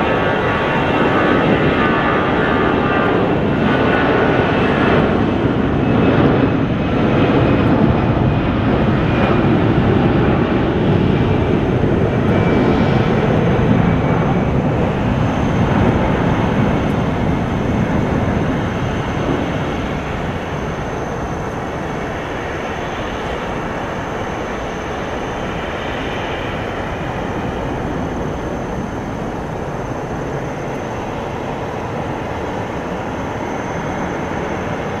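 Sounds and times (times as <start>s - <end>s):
jet engine roar: 0.0s - 35.0s.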